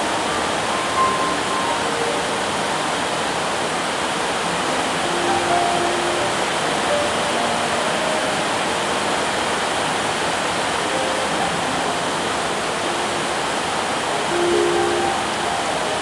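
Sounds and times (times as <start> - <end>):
rain on a metal roof: 0.0 - 16.0.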